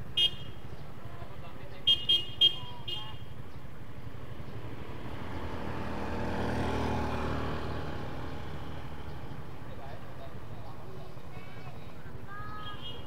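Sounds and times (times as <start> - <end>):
motorcycle passing: 2.3 - 13.0.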